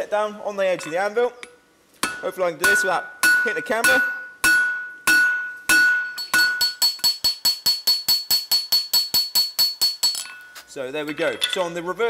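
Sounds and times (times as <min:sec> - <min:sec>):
hammer striking hot steel on anvil: 0:02.0 - 0:11.7.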